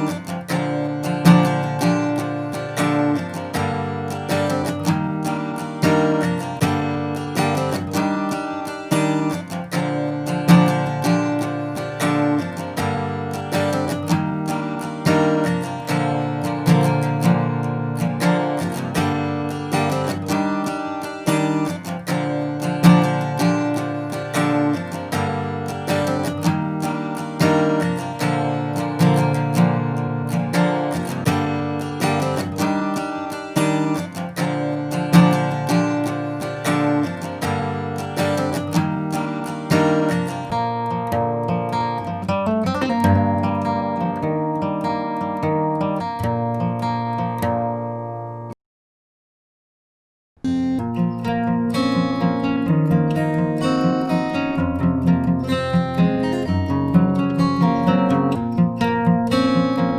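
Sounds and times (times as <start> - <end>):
guitar chords looping: 0.0 - 48.5, 50.5 - 59.9.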